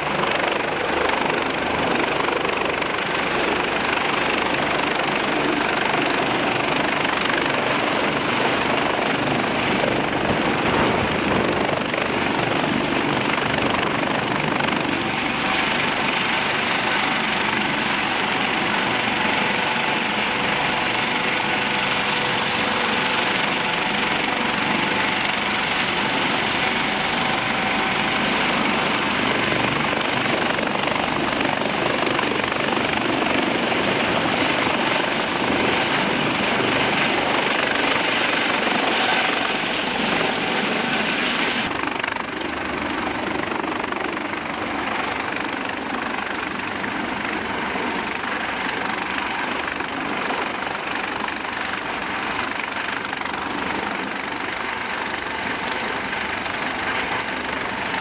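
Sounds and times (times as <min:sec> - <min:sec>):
helicopter engines and rotor: 0:00.0 - 0:58.0.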